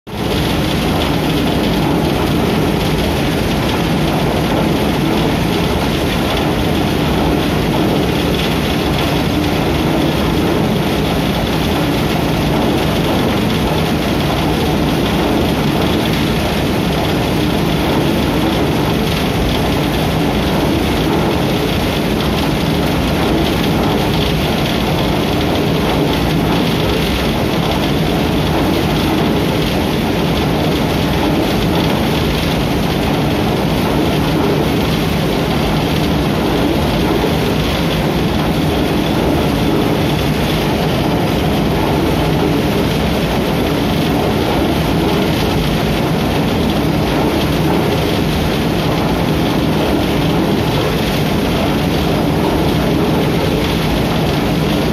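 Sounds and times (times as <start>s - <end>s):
thresher running: 0.1s - 54.9s.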